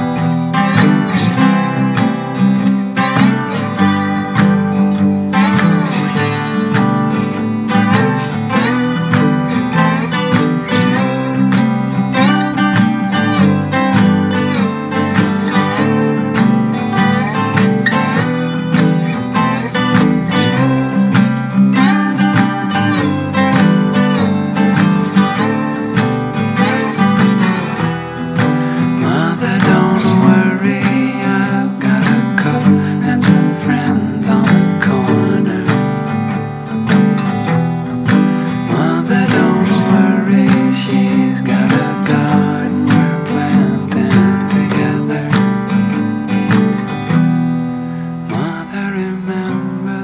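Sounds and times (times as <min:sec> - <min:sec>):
guitar-led instrumental music: 0:00.0 - 0:50.0.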